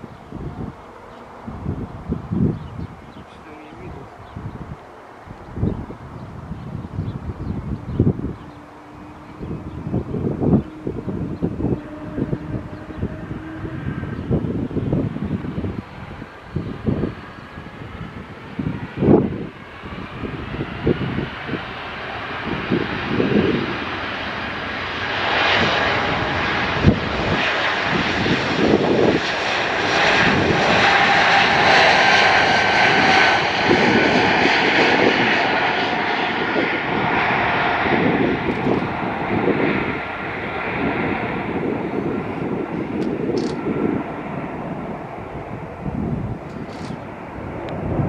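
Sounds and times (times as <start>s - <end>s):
jet engines passing: 0.0s - 48.0s
wind buffeting microphone: 0.0s - 48.0s.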